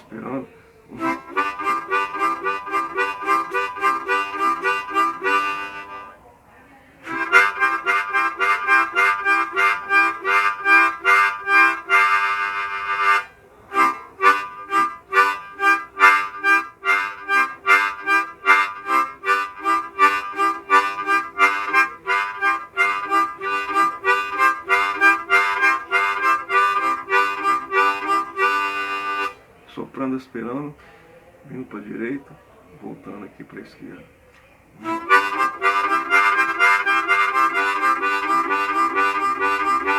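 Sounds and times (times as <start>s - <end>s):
harmonica chugging chords: 0.9s - 6.2s, 7.0s - 29.4s, 34.8s - 39.9s.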